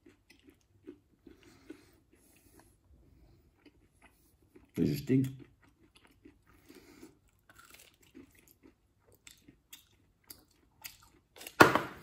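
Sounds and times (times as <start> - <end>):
person chewing crunchy bar: 0.0 - 12.0.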